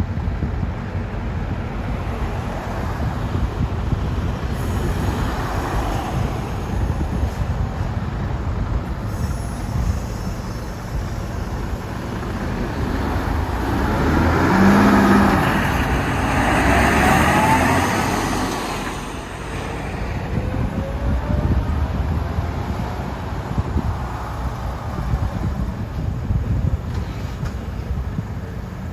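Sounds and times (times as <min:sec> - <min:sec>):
heavy truck driving past: 0:01.5 - 0:28.9.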